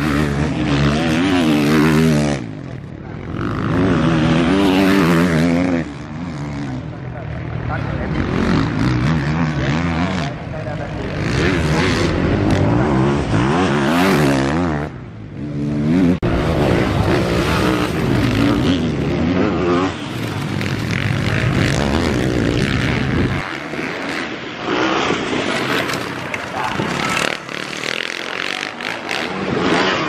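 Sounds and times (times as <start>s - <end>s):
motocross bike engines revving: 0.0s - 30.0s.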